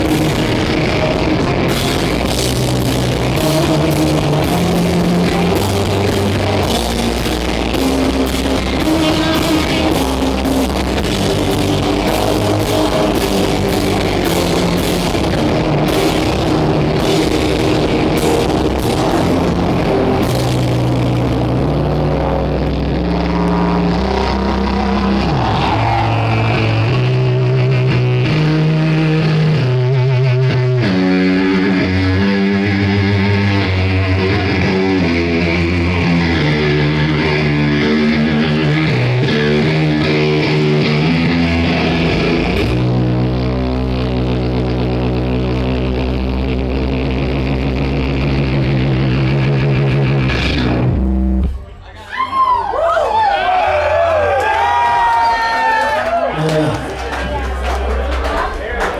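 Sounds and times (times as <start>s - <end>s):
electric guitar: 0.0s - 51.8s
bass guitar: 0.0s - 58.9s.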